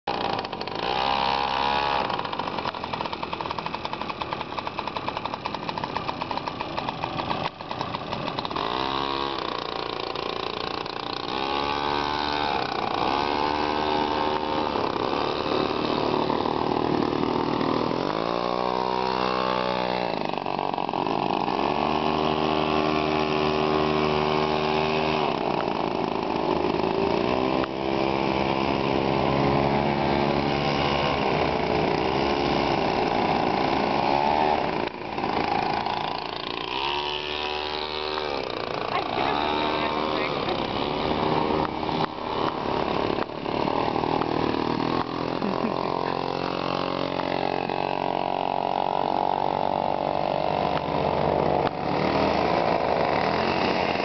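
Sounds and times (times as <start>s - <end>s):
go-kart engines revving: 0.0s - 54.0s.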